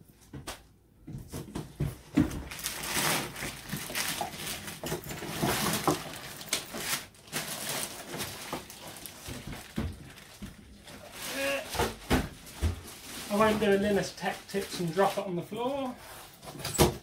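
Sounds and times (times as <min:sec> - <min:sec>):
plastic wrapping crinkling: 0:02.2 - 0:16.5.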